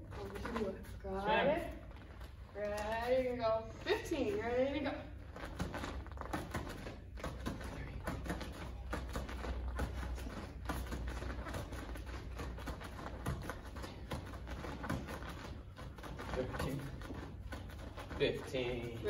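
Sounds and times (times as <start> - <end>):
bare feet tapping on foam mats: 0.0 - 19.0.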